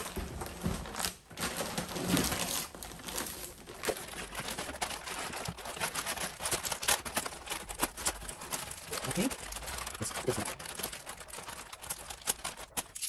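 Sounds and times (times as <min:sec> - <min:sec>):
plastic and foam packing crinkling: 0:00.0 - 0:13.0.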